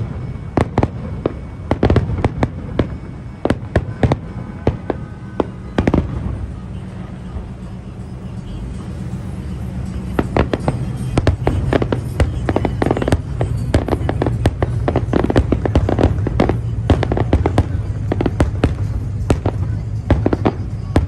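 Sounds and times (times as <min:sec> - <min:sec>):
fireworks bangs and crackles: 0:00.0 - 0:21.0
low rumble: 0:00.0 - 0:21.0.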